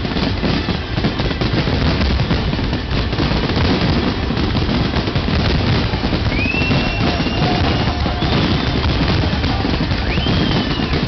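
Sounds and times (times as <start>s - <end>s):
fireworks booming and crackling: 0.0s - 11.0s.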